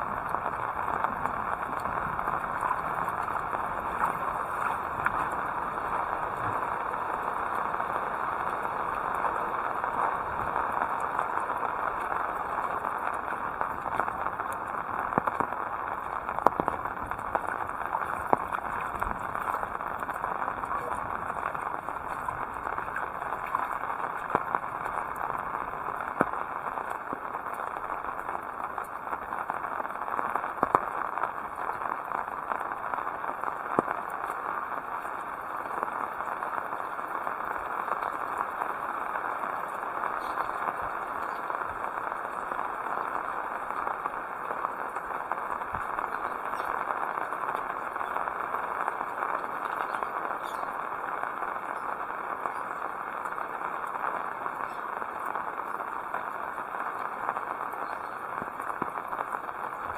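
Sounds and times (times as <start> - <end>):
heavy rain falling: 0.0 - 59.9
raindrops ticking close by: 0.0 - 59.9.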